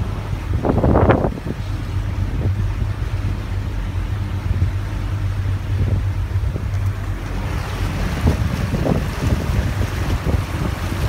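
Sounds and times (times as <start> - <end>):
motorboat engine droning: 0.0 - 11.0
water churning: 0.0 - 11.0
wind: 0.0 - 11.0.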